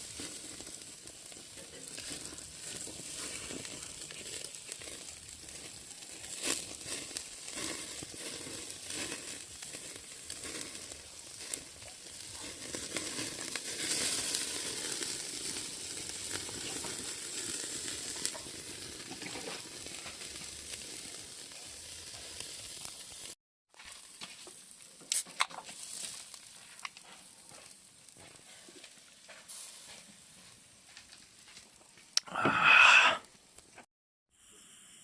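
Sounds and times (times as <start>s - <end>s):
fire grill sizzling and crackling: 0.0s - 35.0s.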